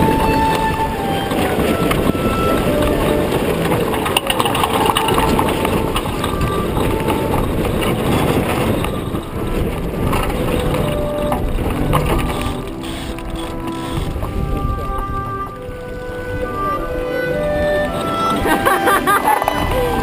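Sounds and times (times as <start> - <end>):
water rushing along a hull: 0.0 - 20.0
wind buffeting microphone: 0.0 - 20.0.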